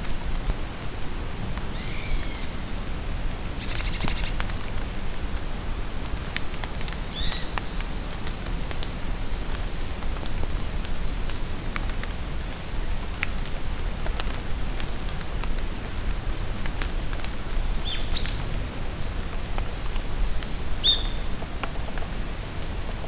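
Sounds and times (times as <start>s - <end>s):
rain pattering in a forest: 0.0s - 23.0s.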